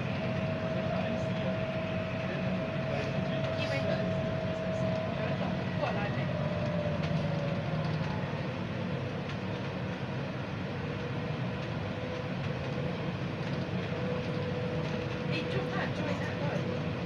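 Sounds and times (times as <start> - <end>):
rumble of tyres and running gear: 0.0 - 17.0.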